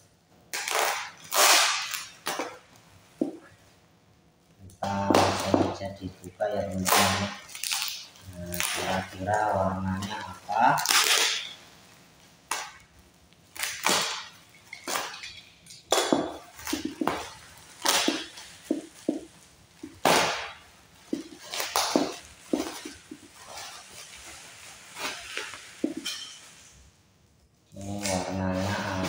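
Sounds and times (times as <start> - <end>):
plastic wrapping crinkling and tearing: 0.5 - 3.6, 4.6 - 26.9, 27.8 - 29.0.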